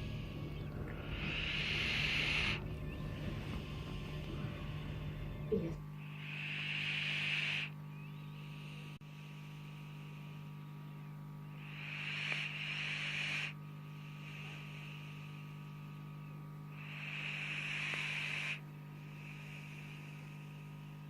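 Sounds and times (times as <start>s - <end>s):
dog snoring: 0.0s - 10.4s, 11.5s - 15.7s, 16.7s - 21.0s.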